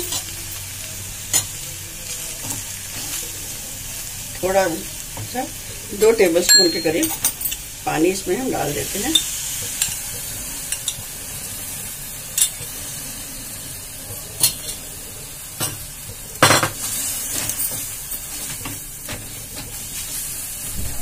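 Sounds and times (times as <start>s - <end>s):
vegetables sizzling in pan: 0.0s - 21.0s.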